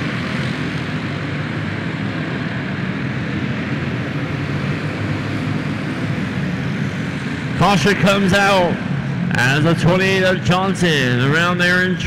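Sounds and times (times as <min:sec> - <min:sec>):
karts racing engine drone: 0:00.0 - 0:12.0.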